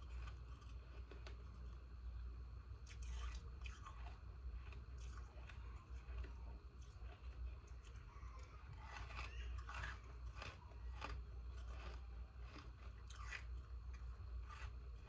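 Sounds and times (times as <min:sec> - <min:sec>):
ice crunching while chewed: 0:00.0 - 0:02.2, 0:02.8 - 0:15.0
steady low hum: 0:00.0 - 0:15.0.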